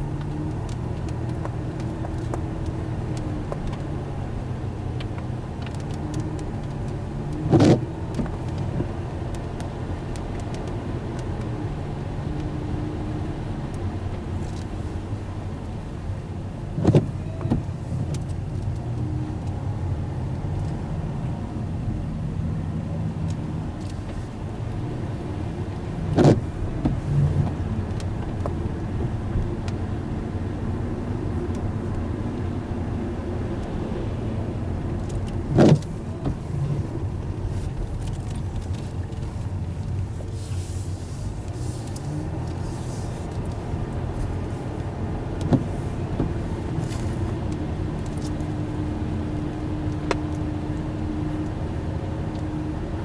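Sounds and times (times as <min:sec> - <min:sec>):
car engine from inside cabin: 0:00.0 - 0:53.0
tyres on wet pavement: 0:00.0 - 0:53.0.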